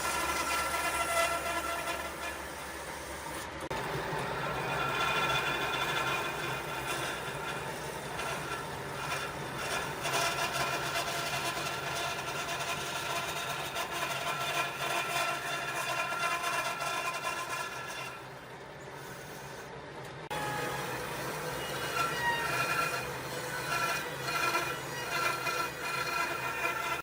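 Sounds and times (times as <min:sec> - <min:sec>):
workshop machine whining hum: 0:00.0 - 0:27.0.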